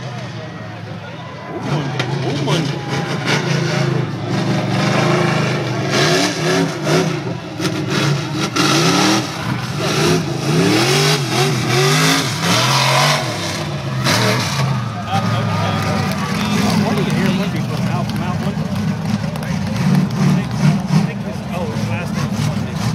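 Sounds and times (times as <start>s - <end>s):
truck engine revving hard: 0.0s - 22.9s.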